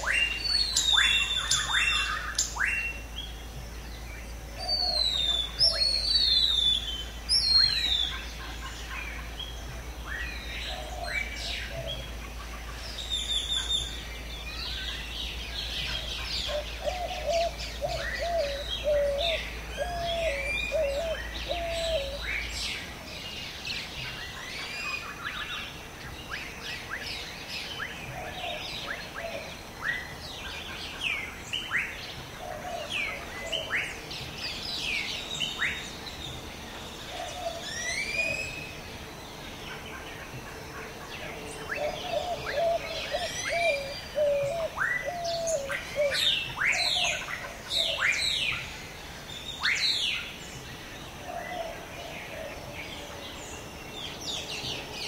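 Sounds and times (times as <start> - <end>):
birds whistling and chirping: 0.0 - 55.0
lower repeated bird call: 0.0 - 55.0.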